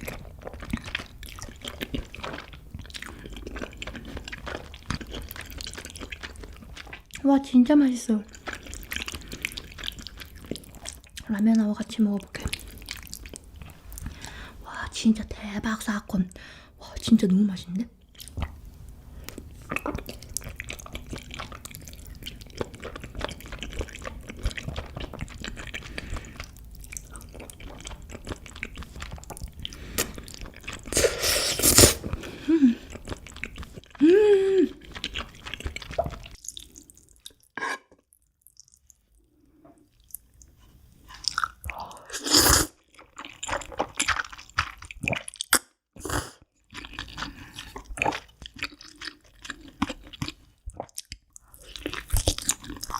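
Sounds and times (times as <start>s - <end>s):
chewing noodles: 0.0s - 7.3s, 8.2s - 14.3s, 18.0s - 52.9s.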